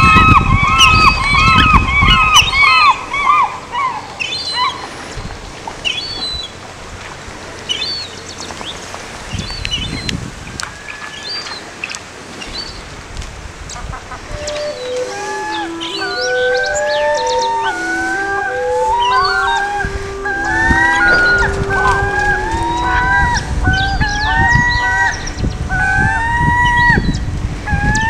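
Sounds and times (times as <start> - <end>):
eagles chirping: 0.0 - 6.7, 7.3 - 13.0, 13.7 - 28.0
steady background hiss: 0.0 - 28.0.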